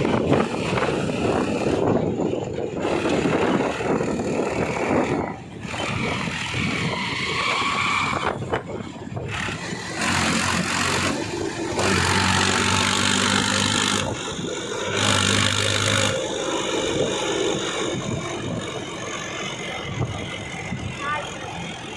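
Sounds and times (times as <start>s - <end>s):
diesel engines running: 0.0s - 21.9s.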